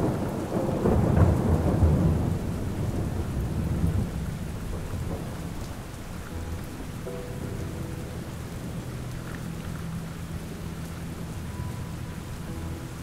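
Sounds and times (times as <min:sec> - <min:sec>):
low thunder rolling: 0:00.0 - 0:10.8
steady rain: 0:00.0 - 0:13.0.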